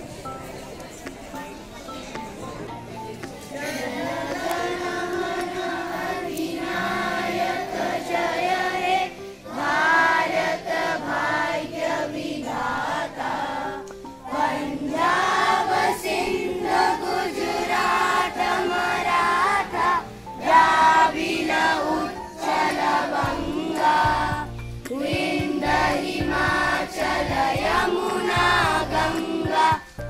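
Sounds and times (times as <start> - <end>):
children and women singing in chorus: 3.5 - 30.0.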